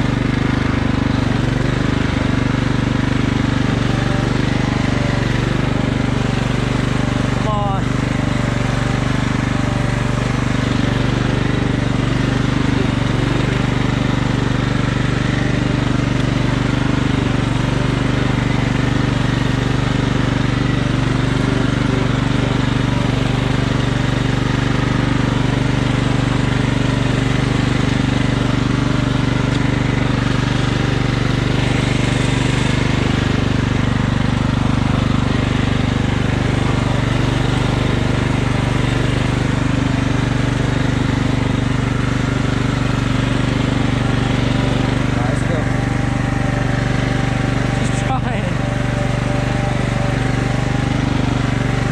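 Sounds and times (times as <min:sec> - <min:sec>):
lawn mower engine running: 0:00.0 - 0:51.9.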